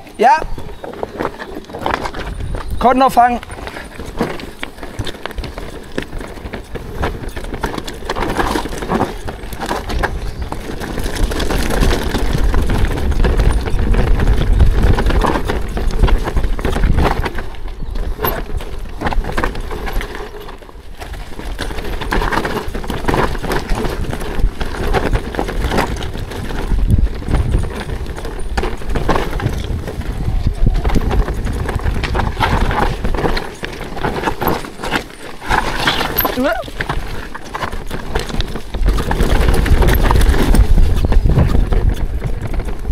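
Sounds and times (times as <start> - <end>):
bike tyres rattling over rocks: 0.0 - 42.9
wind rumbling on microphone: 0.0 - 42.9.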